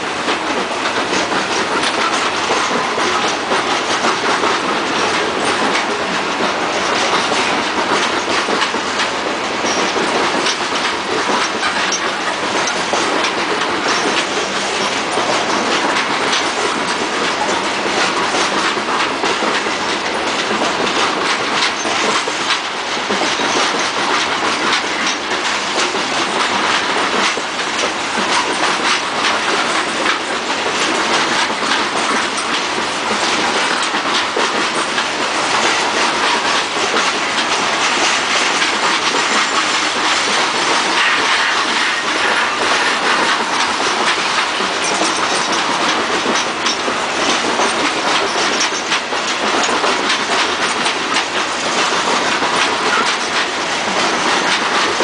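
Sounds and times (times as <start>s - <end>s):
wheels clacking over rail joints: 0.0s - 55.0s.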